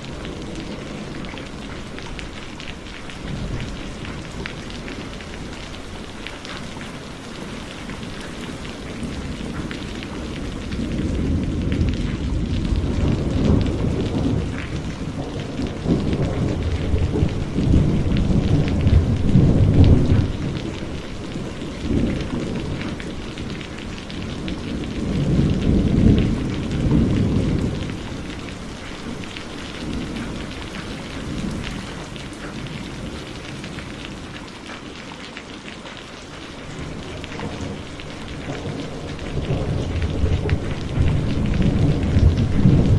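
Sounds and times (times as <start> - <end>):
thunder rumbling: 0.0 - 34.7, 36.5 - 42.9
heavy rain: 0.0 - 42.9.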